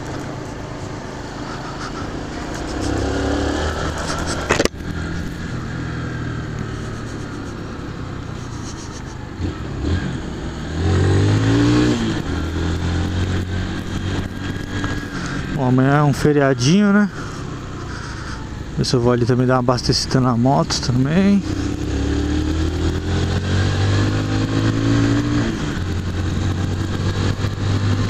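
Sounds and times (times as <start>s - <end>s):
motorcycle engine revving: 0.0s - 19.6s, 20.2s - 28.0s.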